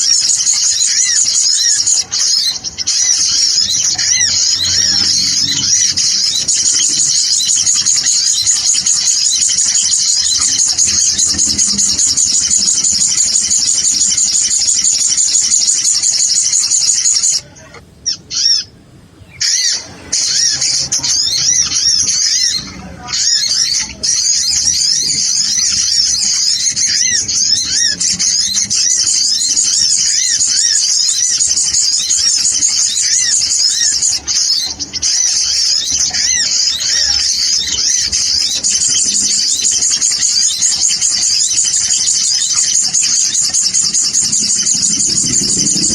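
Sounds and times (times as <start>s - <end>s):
birds chattering with high chirps: 0.0s - 45.9s.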